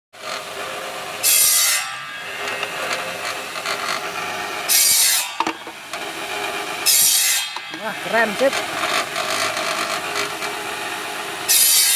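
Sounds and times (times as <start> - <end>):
machine motor hum: 0.2 - 11.8.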